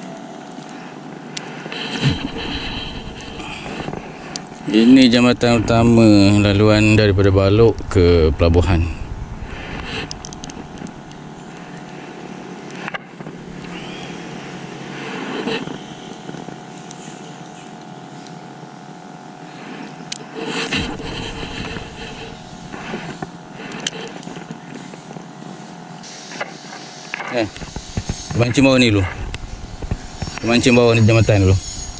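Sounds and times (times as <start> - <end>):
engine humming: 1.5 - 18.1, 20.5 - 25.3, 27.5 - 31.9.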